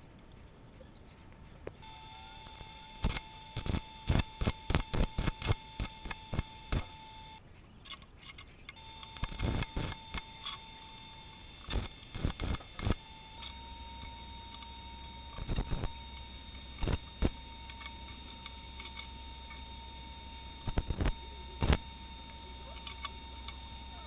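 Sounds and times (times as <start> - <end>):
steady high tone: 1.8 - 7.4, 8.8 - 24.0.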